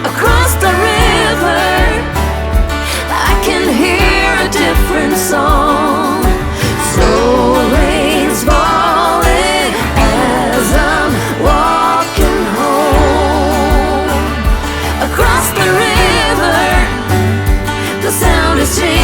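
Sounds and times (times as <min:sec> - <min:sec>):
pop song with singer over beat: 0:00.0 - 0:19.0.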